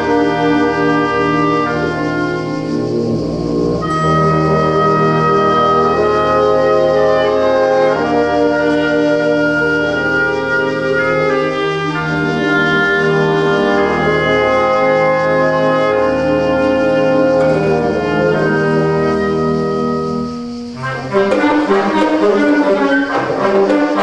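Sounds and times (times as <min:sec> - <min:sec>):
instrumental background music: 0:00.2 - 0:24.0.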